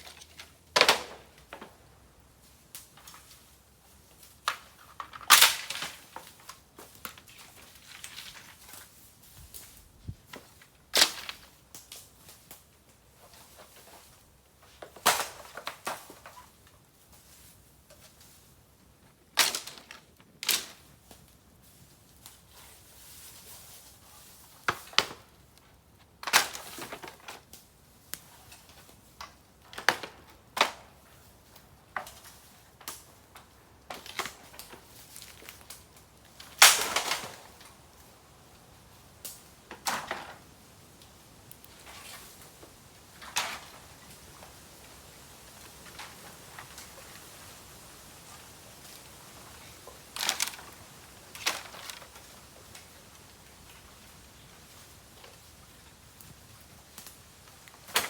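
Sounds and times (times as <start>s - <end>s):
bamboo cracking and popping: 0.0s - 14.1s, 14.7s - 18.4s, 19.0s - 22.5s, 24.2s - 38.6s, 39.2s - 58.0s
faint fire crackling: 0.0s - 58.0s.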